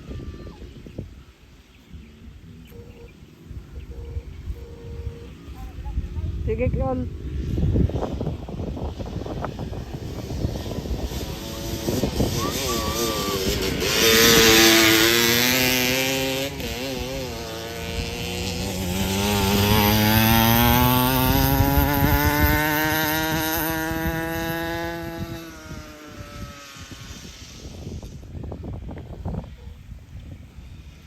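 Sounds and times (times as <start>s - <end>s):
dirt bike revving past: 2.0s - 29.9s.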